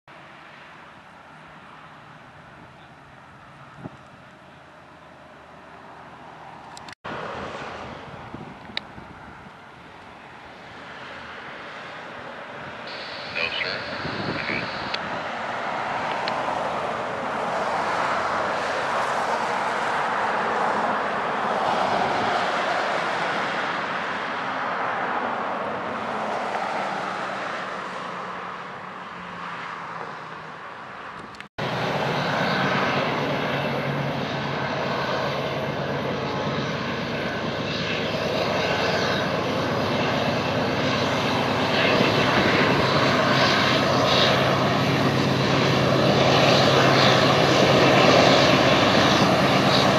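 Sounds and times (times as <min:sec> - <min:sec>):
diesel locomotive engine drone: 0:00.2 - 0:21.7, 0:31.2 - 0:49.9.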